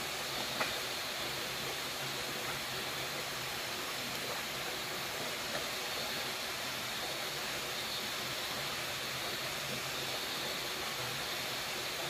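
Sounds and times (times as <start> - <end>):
rushing stream water: 0.0 - 12.0.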